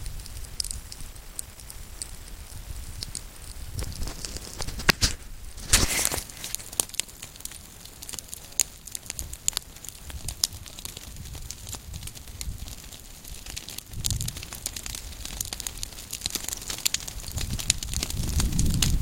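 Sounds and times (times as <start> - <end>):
burning grass crackling and popping: 0.0 - 19.0.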